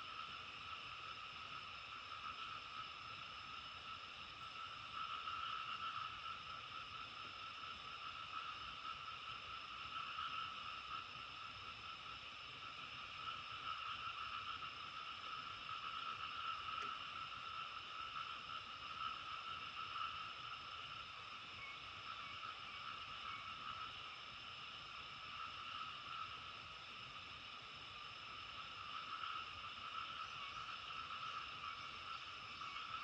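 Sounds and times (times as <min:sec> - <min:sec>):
chorus of frogs calling: 0:00.0 - 0:33.0.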